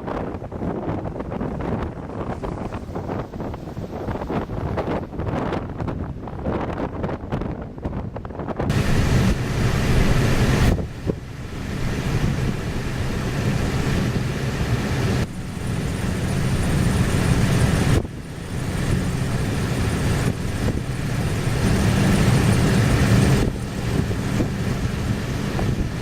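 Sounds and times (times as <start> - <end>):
lake surf: 0.0 - 7.8, 8.7 - 26.0
wind buffeting microphone: 0.0 - 26.0.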